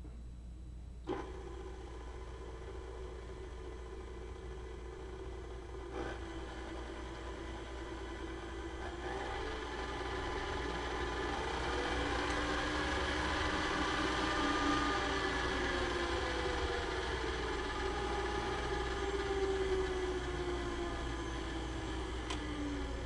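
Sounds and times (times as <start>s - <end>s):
stand mixer motor whirring: 1.1s - 23.0s.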